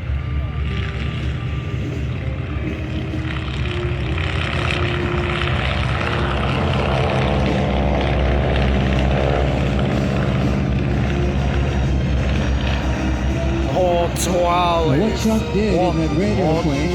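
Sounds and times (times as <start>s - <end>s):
biplane engines droning: 0.0s - 16.9s.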